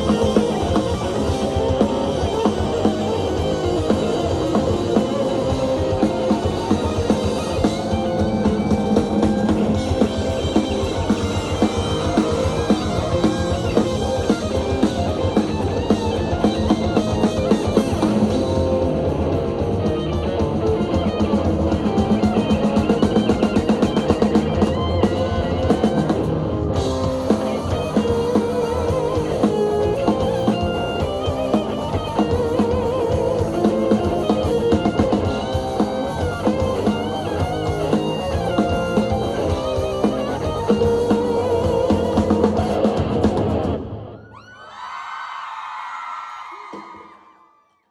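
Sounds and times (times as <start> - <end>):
drum kit: 0.0 - 44.2
rock band playing live: 0.0 - 44.2
electric guitar: 0.0 - 44.3.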